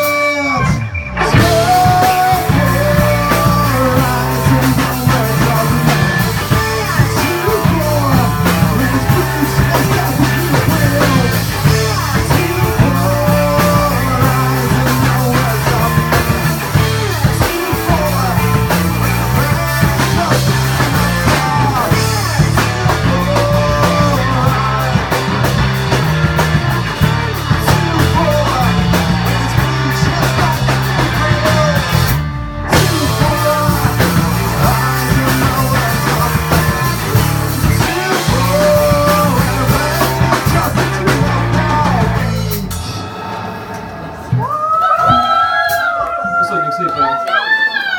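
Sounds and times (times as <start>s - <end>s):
drum kit: 0.0s - 46.2s
electric guitar: 0.0s - 46.2s
bass guitar: 0.0s - 46.3s.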